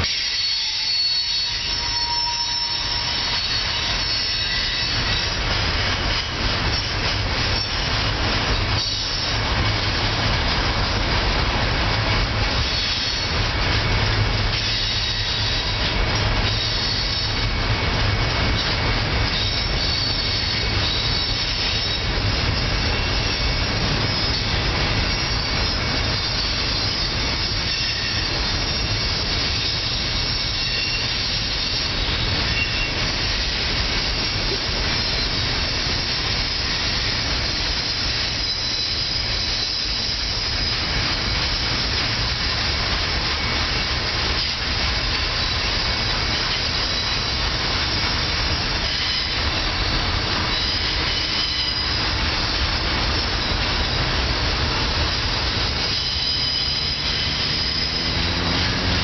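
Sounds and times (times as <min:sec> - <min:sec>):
high wheel squeal: 0:00.0 - 0:05.6, 0:12.5 - 0:17.6, 0:18.5 - 0:59.0
train wheels rumbling on rail: 0:00.0 - 0:59.0.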